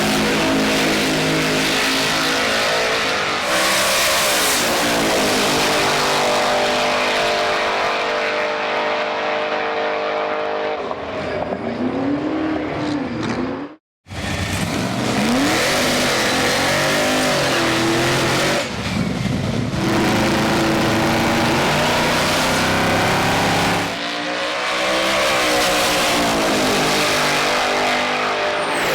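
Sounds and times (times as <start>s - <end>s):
drag car engine revving: 0.0s - 28.9s.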